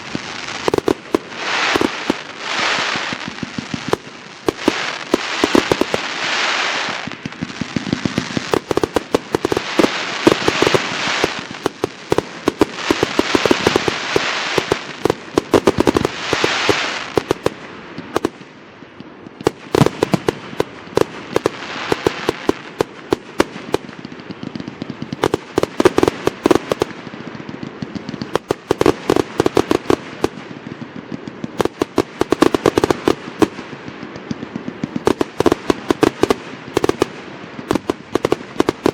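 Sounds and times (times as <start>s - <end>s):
fireworks bangs and cracks: 0.0s - 38.9s.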